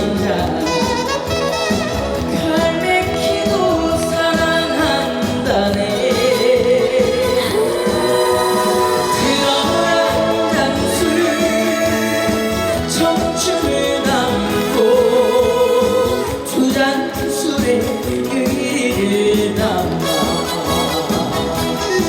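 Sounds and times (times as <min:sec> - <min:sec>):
instrumental accompaniment: 0:00.1 - 0:22.0.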